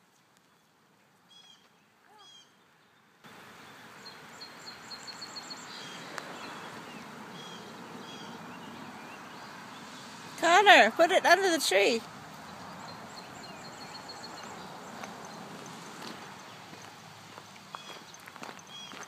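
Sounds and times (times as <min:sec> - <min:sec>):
background hiss: 0:00.0 - 0:19.0
small birds chirping: 0:00.0 - 0:19.0.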